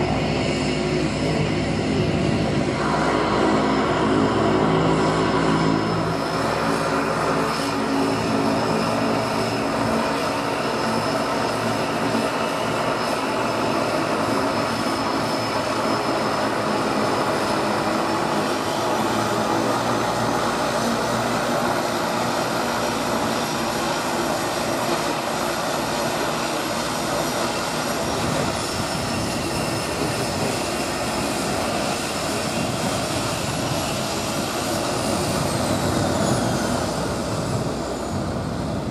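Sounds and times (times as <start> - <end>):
propeller engine drone: 0.0 - 38.9.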